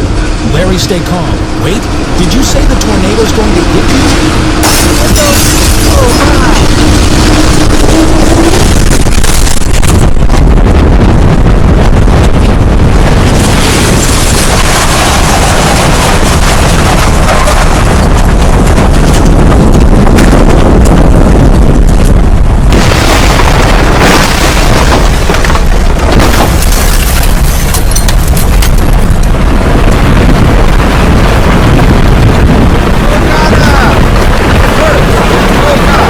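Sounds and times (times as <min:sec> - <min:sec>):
wind roaring over microphone: 0:00.0 - 0:36.0
sharp crackles: 0:01.7 - 0:36.0.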